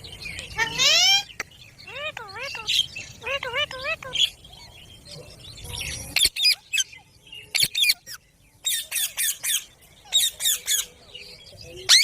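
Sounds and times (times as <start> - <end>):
parakeets screeching: 0.4 - 11.0.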